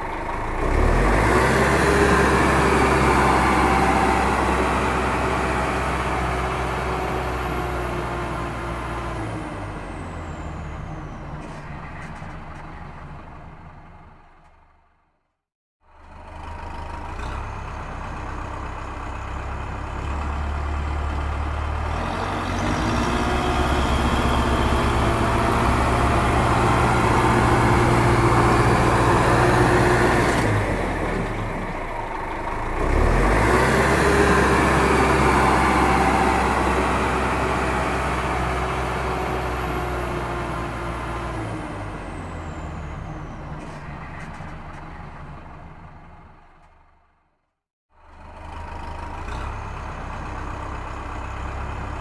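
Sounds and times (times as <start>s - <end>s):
tractor engine running: 0.0s - 10.5s, 15.9s - 47.2s, 48.0s - 52.0s.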